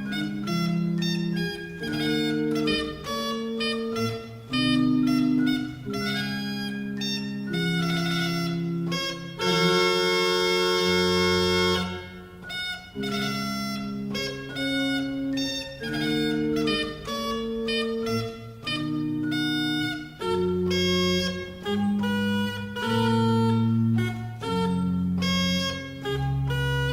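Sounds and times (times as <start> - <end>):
organ playing sustained chords: 0.0 - 26.9.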